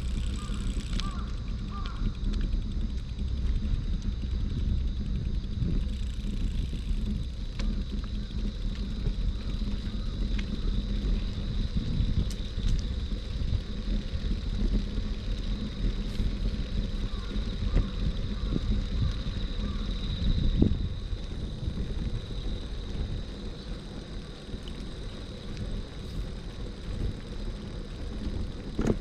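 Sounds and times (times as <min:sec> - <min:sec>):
low traffic rumble: 0:00.0 - 0:29.0.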